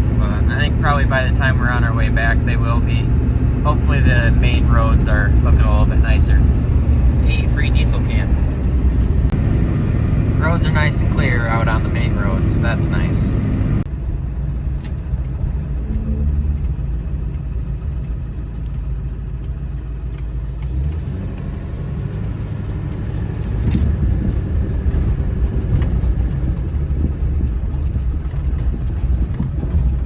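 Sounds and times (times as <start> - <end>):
diesel truck engine drone: 0.0 - 30.0
road rumble: 0.0 - 30.0.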